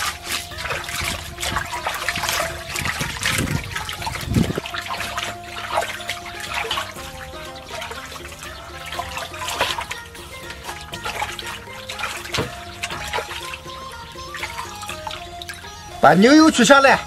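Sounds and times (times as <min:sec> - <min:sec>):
water sloshing in metal bowl: 0:00.0 - 0:17.0
water splashes: 0:00.0 - 0:17.0.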